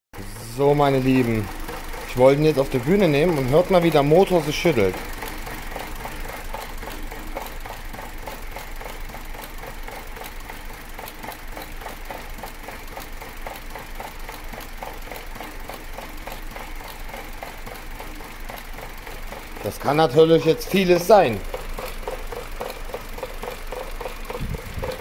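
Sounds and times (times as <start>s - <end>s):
engine idling roughly: 0.2s - 25.0s.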